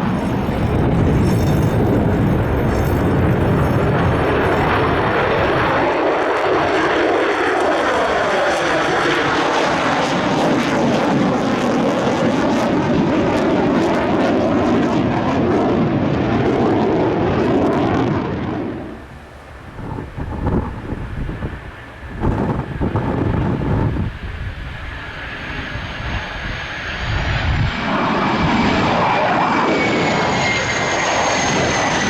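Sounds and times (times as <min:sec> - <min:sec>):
jet engine passing: 0:00.0 - 0:32.0.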